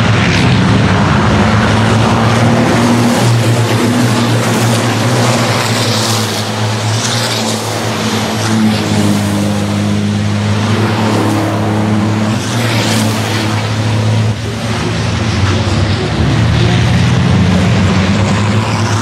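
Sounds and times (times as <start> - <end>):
racing truck engines: 0.0 - 19.0.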